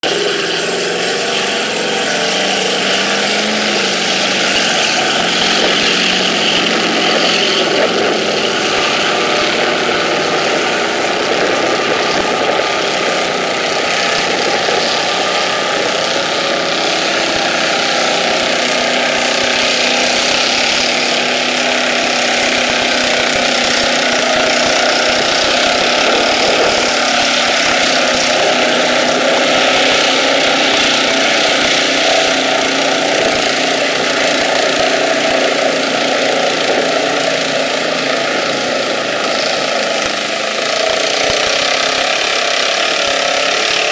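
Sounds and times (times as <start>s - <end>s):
car engine running loud: 0.0s - 43.9s.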